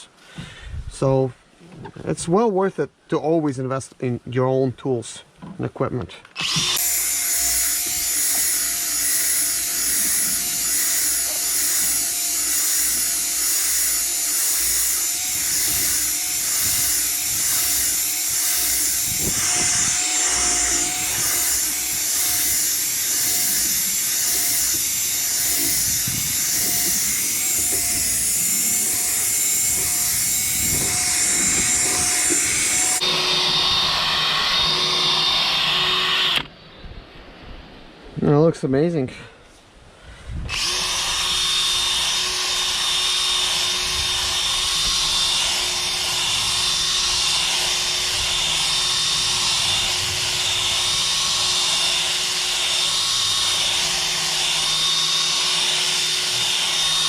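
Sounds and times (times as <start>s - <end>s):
electric drill motor whine: 6.4s - 36.5s, 40.5s - 57.0s.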